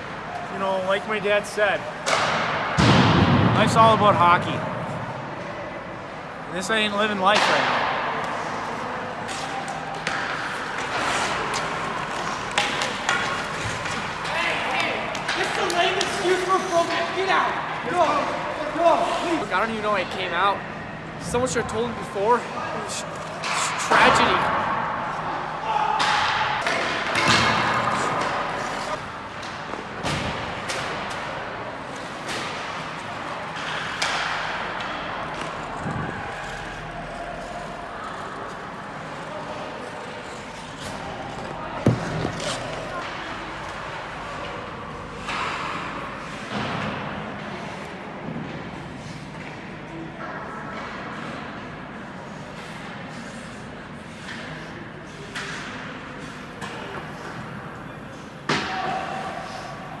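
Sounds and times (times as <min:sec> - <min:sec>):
steady background noise: 0:00.0 - 1:00.0.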